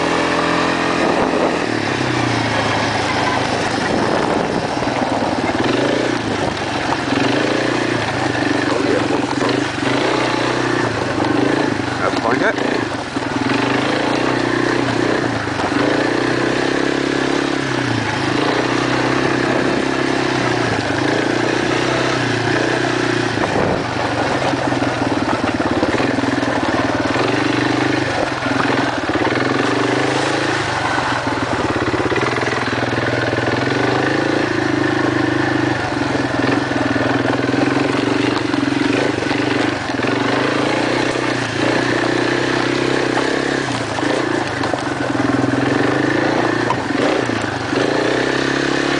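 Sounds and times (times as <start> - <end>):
quad bike engine running: 0.0 - 48.9.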